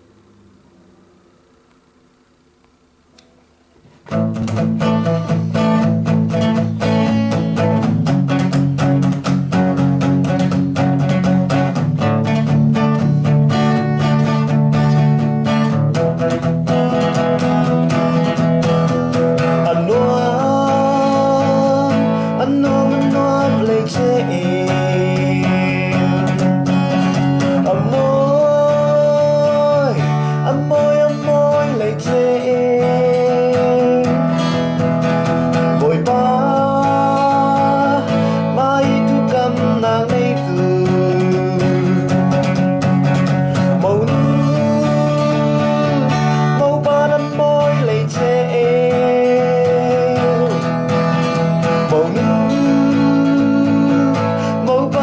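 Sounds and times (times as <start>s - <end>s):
strummed acoustic guitar: 3.8s - 55.0s.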